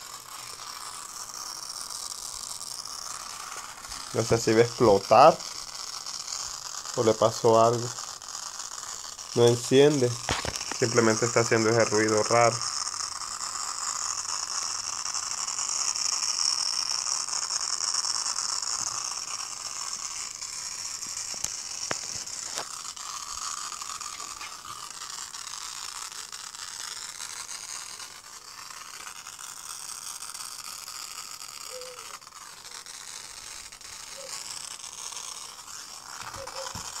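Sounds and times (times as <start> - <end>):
computer high-pitched hiss: 0.0 - 37.0.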